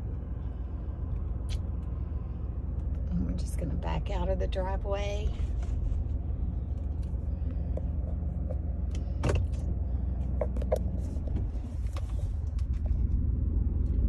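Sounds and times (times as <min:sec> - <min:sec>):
car idling from inside cabin: 0:00.0 - 0:14.0.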